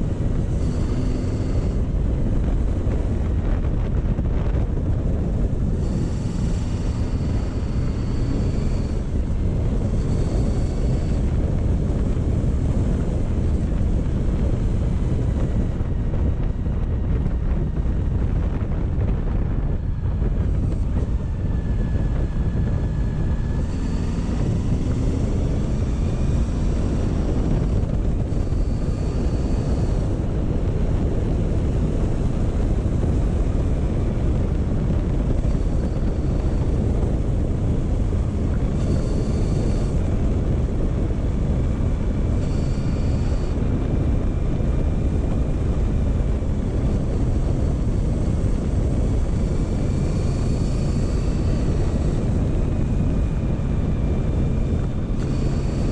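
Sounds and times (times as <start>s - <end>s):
motorcycle engine running: 0.0s - 55.9s
wind rumble on microphone: 0.0s - 55.9s.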